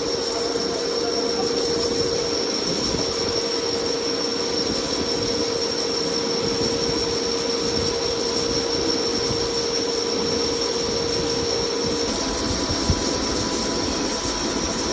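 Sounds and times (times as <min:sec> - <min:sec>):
lathe high whine: 0:00.0 - 0:14.9.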